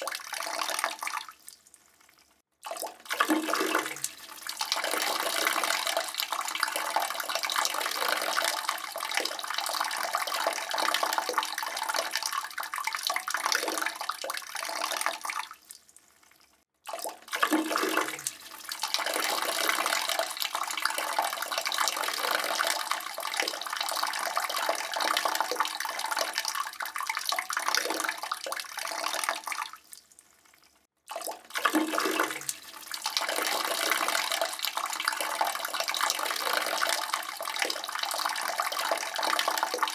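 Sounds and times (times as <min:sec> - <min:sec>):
urine stream splashing in toilet: 0:00.0 - 0:01.4, 0:02.7 - 0:15.5, 0:16.9 - 0:29.7, 0:31.2 - 0:39.9.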